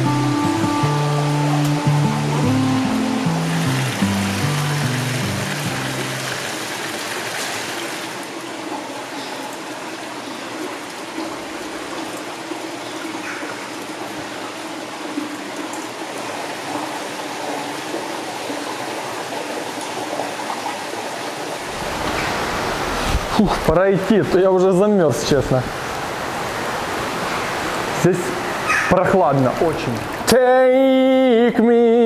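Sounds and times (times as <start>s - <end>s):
stream rushing over rocks: 0.0s - 30.4s.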